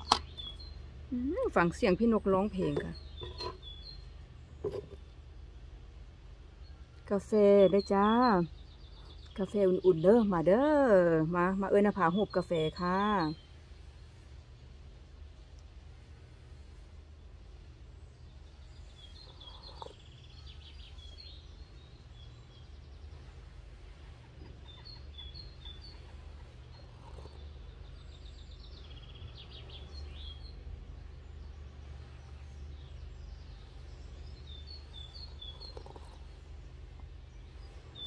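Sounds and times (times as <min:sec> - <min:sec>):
songbirds chirping and trilling: 0:00.0 - 0:38.0
steady low hum: 0:00.0 - 0:38.0.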